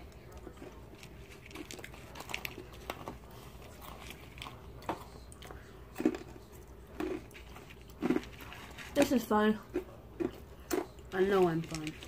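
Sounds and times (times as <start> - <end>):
pretzels crunching: 0.0 - 12.0.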